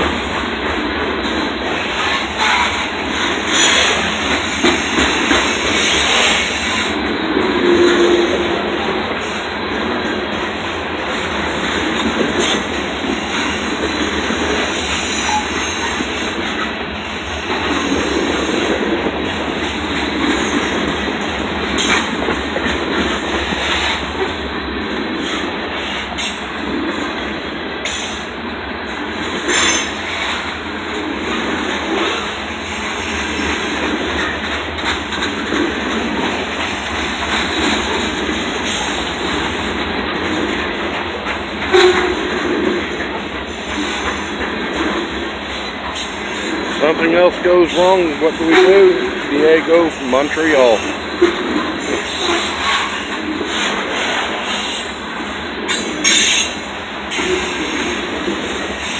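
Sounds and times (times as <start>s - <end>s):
clacks over rail joints: 0.0s - 58.9s
train wheels rumbling on rail: 0.0s - 58.9s.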